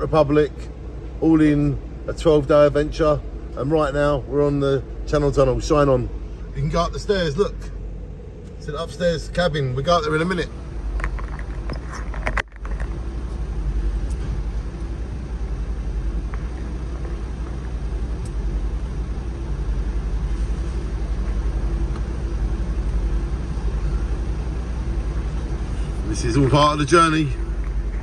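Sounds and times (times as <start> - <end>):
faint steady hum: 0.0 - 28.0
low rumble inside car cabin: 0.0 - 28.0.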